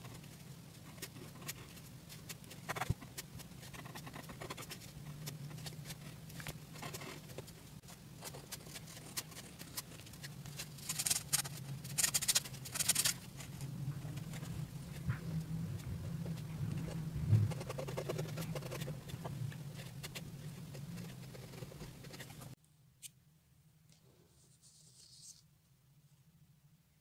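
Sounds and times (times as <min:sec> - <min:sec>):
low steady hum: 0:00.0 - 0:27.0
pen scratching on paper: 0:00.8 - 0:22.6.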